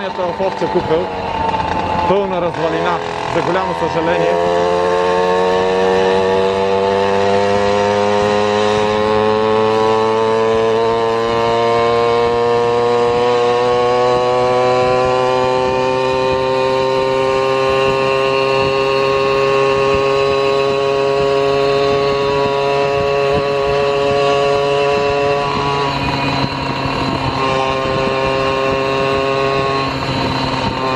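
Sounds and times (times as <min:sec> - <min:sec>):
small motorbike engine revving up: 0:00.0 - 0:30.9.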